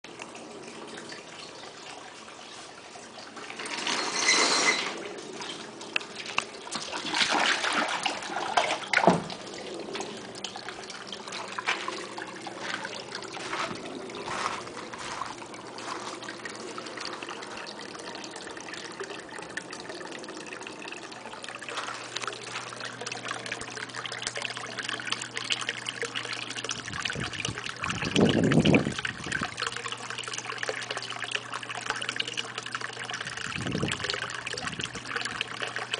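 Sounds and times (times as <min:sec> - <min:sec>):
water trickling into pond: 0:00.0 - 0:35.9
low steady hum: 0:00.1 - 0:35.9.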